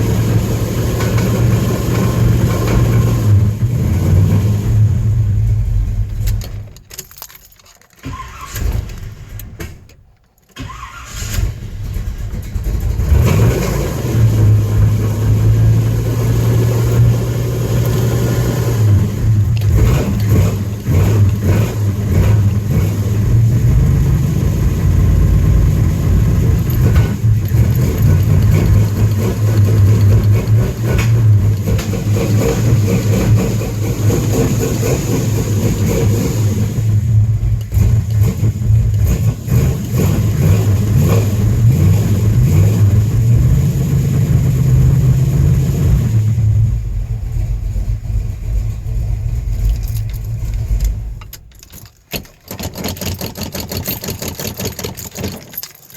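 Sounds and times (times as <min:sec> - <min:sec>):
car engine revving: 0:00.0 - 0:06.2, 0:10.6 - 0:52.3.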